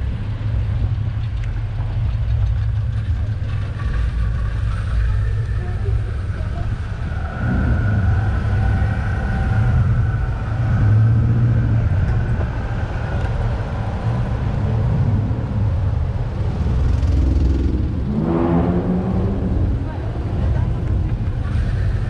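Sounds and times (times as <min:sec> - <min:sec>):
car traffic: 0:00.0 - 0:22.0
wind and road noise: 0:00.0 - 0:22.0.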